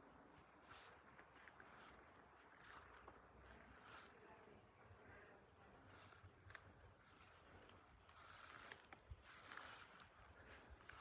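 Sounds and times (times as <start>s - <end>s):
soft footsteps: 0.2s - 11.0s.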